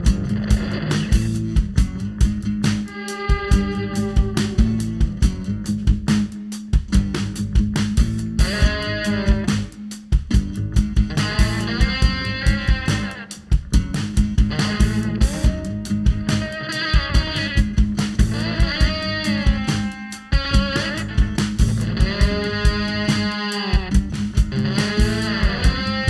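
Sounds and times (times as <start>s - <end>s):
electric guitar lines: 0.0s - 6.3s, 8.2s - 9.9s, 10.6s - 26.0s
drum beat: 0.0s - 26.0s
upright bass: 0.0s - 26.0s.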